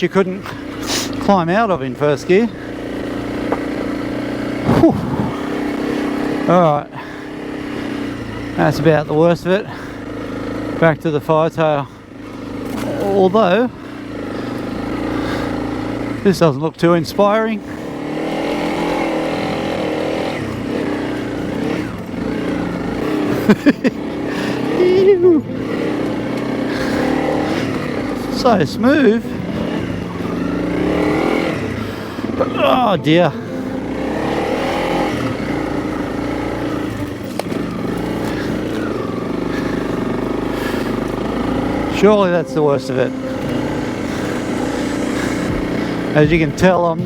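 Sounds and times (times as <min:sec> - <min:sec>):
motorcycle engine at low revs: 0:00.0 - 0:47.0.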